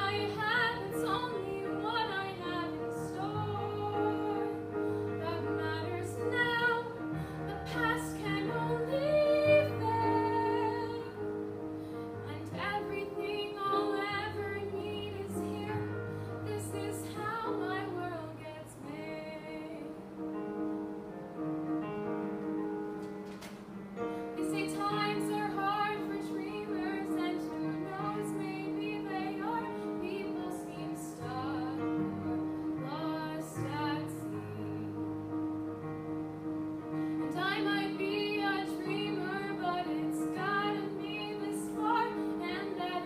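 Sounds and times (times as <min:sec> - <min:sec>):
girl singing: 0:00.0 - 0:11.2, 0:12.2 - 0:20.0, 0:24.4 - 0:35.0, 0:37.2 - 0:43.0
piano accompaniment: 0:00.0 - 0:43.0.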